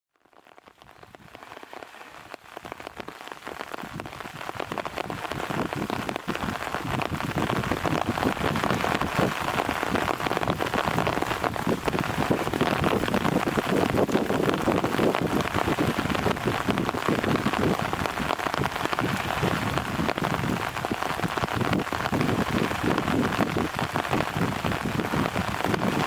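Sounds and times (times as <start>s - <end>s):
wind-driven rain patter: 0.2s - 26.0s.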